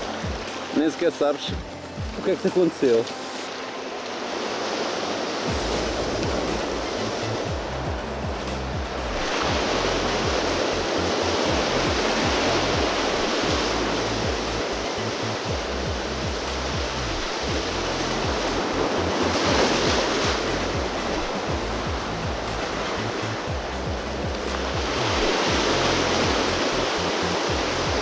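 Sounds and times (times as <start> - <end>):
background music: 0.0 - 28.0
surf washing over rocks: 0.0 - 28.0.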